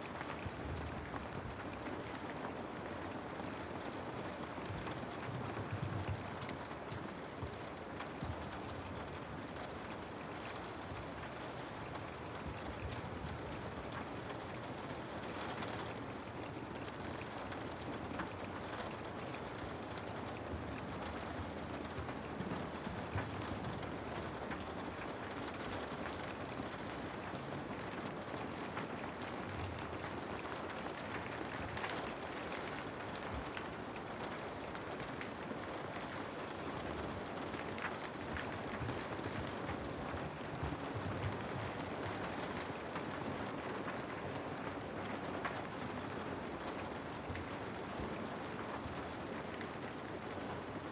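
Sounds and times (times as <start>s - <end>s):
raindrop patter: 0.0s - 50.9s
steady rain falling: 0.0s - 50.9s.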